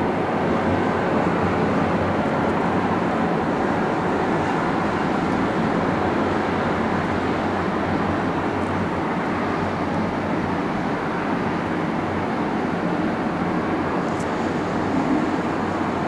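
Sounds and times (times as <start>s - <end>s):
distant jet traffic roar: 0.0s - 16.0s.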